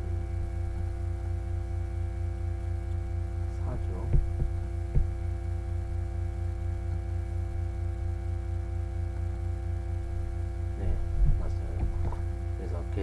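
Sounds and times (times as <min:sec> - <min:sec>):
electrical hum with high tones: 0:00.0 - 0:13.0.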